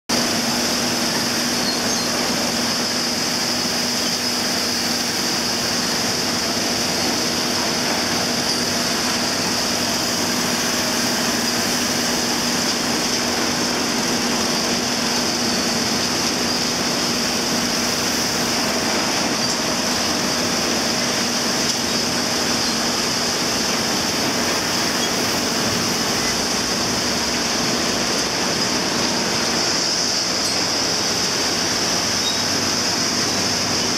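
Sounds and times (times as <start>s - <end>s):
industrial machinery running: 0.1s - 33.9s.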